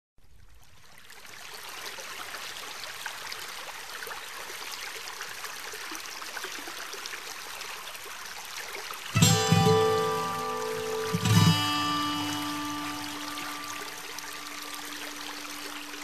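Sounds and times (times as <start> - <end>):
stream water rushing: 1.6 - 16.0.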